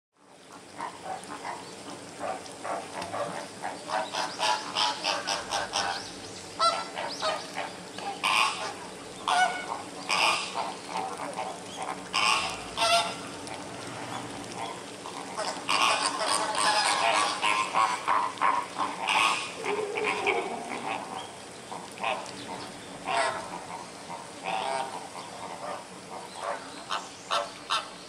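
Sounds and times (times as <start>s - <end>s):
flamingos honking: 2.7s - 27.9s.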